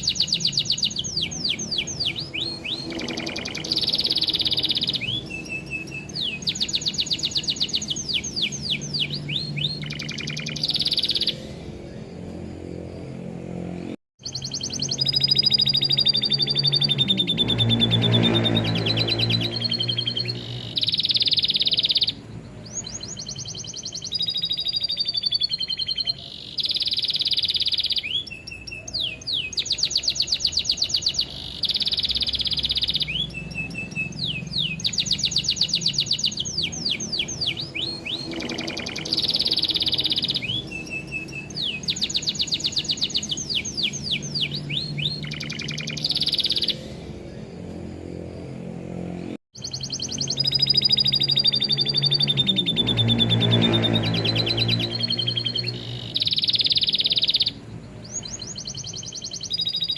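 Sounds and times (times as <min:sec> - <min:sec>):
lovebird calls: 0:00.0 - 0:12.2, 0:14.2 - 0:48.4, 0:49.6 - 0:59.9
canary trilling: 0:00.0 - 0:59.9.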